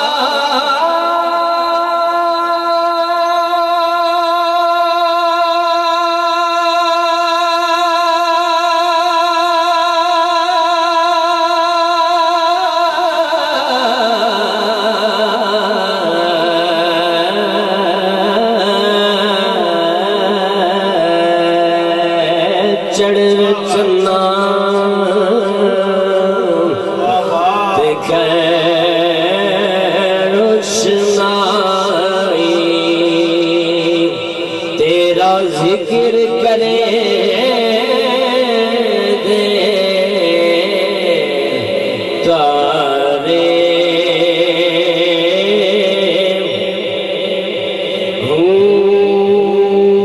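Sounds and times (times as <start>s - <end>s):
man chanting into a microphone: 0.0s - 50.0s.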